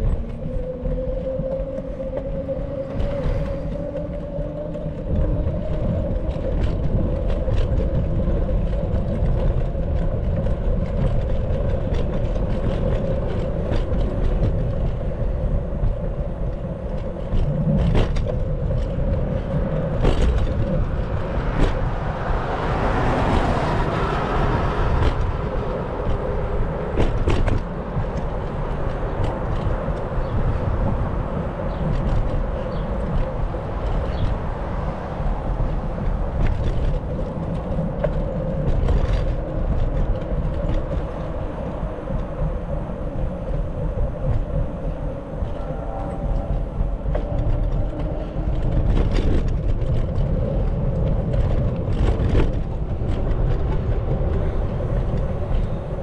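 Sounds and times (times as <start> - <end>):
bicycle clicks and rattles: 0.0 - 22.0, 24.4 - 45.6, 46.3 - 56.0
street traffic noise: 0.0 - 56.0
wind rumble on microphone: 0.0 - 56.0.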